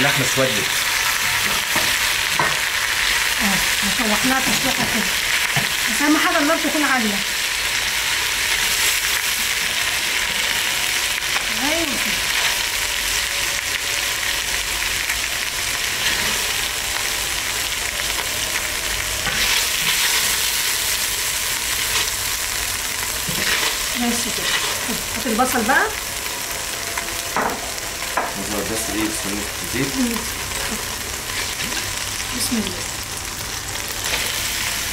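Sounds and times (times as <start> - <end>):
meat sizzling in hot oil: 0.0 - 34.9.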